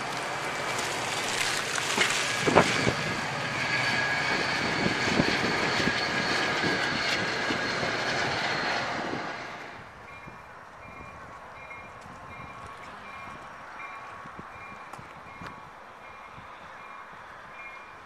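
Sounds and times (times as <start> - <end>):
electric train rumbling: 0.0 - 18.0
train high whine: 0.0 - 18.0.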